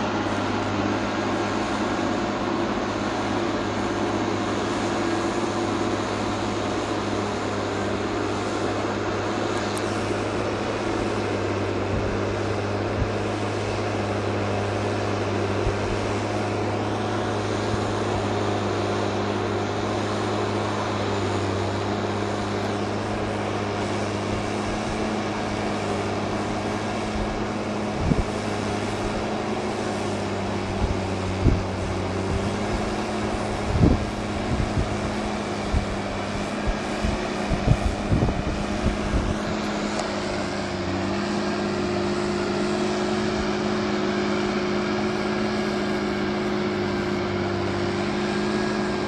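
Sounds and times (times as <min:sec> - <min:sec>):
tractor diesel engine under load: 0:00.0 - 0:49.0.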